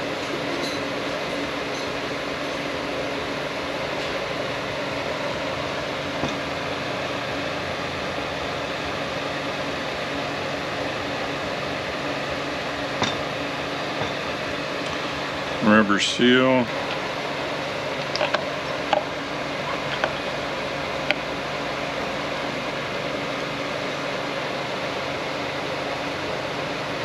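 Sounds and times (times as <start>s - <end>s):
fan whirring hum: 0.0s - 27.0s.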